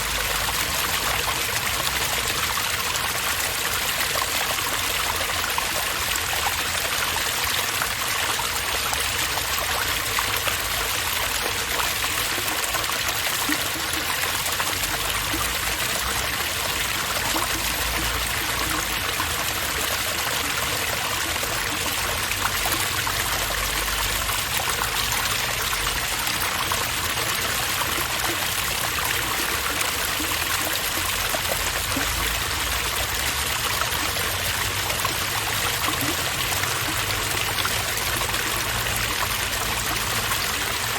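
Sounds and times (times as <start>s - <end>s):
fountain water rushing: 0.0s - 40.9s.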